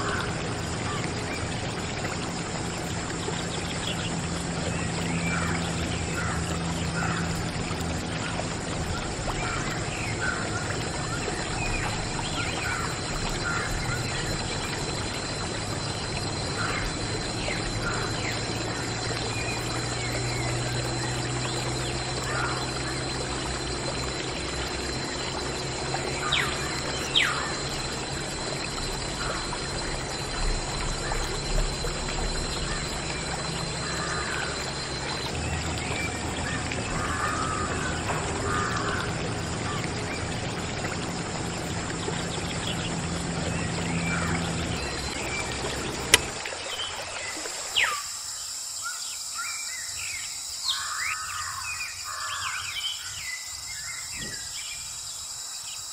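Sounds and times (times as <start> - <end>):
water jet splashing on plastic: 0.0 - 48.0
faint steady tone: 0.0 - 55.9.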